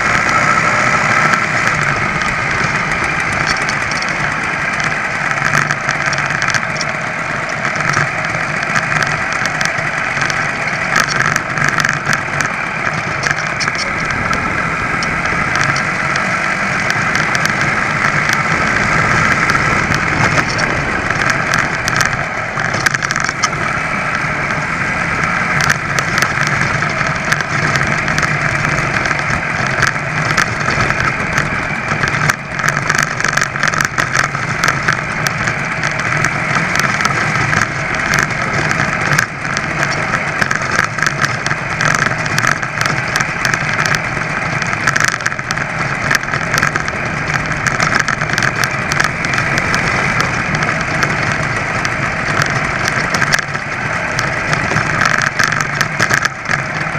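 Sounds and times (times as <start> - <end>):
moped engine buzzing: 0.0 - 56.9.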